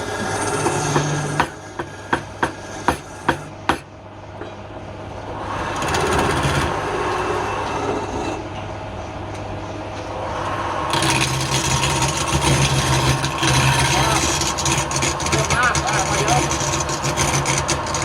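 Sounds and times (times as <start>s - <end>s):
tool scraping spinning wood: 0.0s - 3.8s, 5.4s - 8.4s, 10.2s - 18.0s
wood lathe humming: 0.0s - 3.8s, 5.3s - 8.4s, 10.1s - 18.0s.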